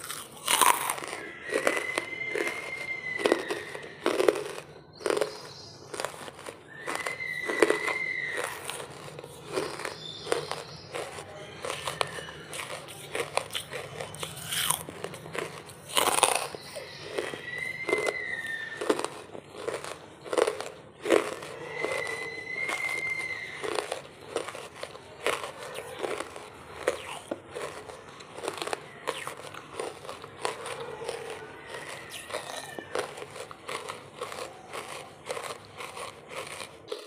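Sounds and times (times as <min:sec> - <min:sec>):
charcoal crunching: 0:00.0 - 0:37.0
gritty chewing: 0:00.0 - 0:37.0.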